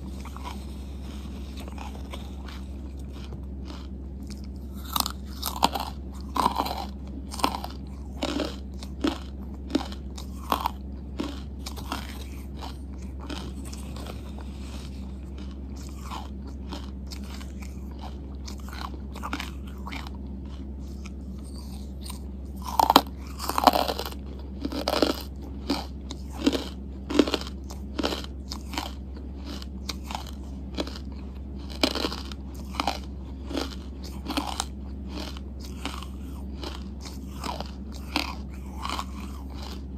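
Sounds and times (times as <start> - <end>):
crunching and chewing charcoal: 0.0 - 39.9
steady low hum: 0.0 - 39.9.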